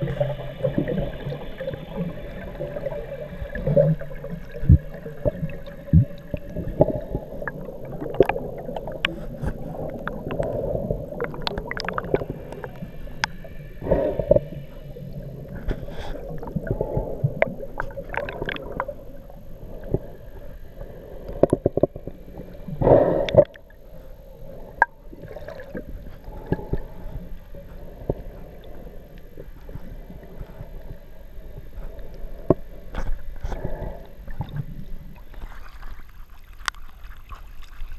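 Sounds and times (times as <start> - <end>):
underwater bubbles gurgling: 0.0 - 37.9.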